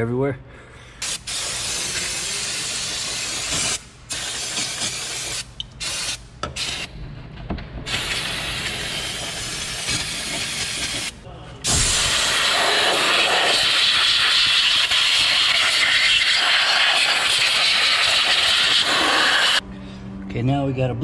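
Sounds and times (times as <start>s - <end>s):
aerosol spray hissing: 1.0s - 6.9s, 7.9s - 11.1s, 11.7s - 19.6s.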